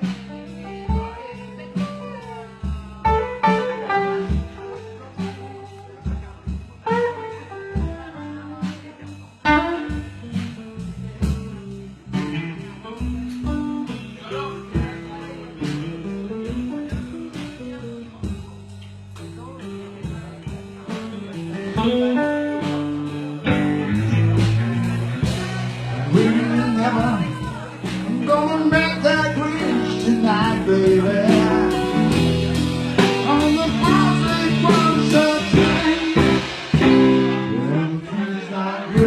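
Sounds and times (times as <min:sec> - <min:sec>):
steady drum beat: 0:00.0 - 0:37.8
bass line: 0:00.0 - 0:39.0
blues band playing: 0:00.0 - 0:39.0
guitar picking melody: 0:00.0 - 0:39.0.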